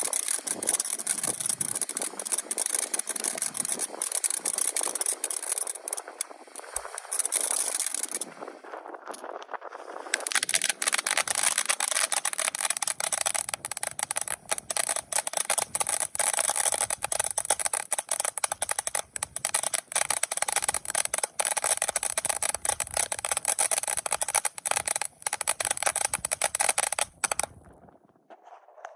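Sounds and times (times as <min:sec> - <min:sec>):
firework crackling over hiss: 0:00.0 - 0:27.8.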